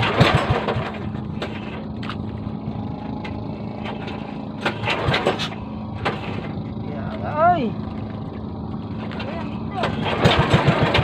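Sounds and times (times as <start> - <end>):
knocks and clatters: 0.0 - 7.2, 7.8 - 11.0
boat engine running: 0.0 - 11.0.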